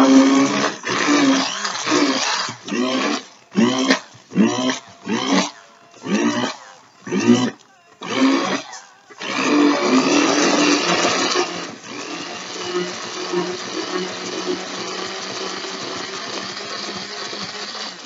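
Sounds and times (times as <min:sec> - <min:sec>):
immersion blender whirring: 0:00.0 - 0:18.0.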